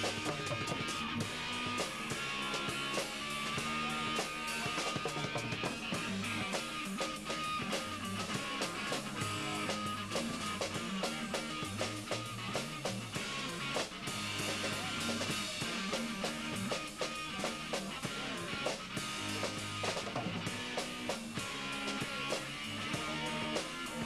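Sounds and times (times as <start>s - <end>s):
drum kit: 0.0s - 24.0s
guitar: 0.0s - 24.0s.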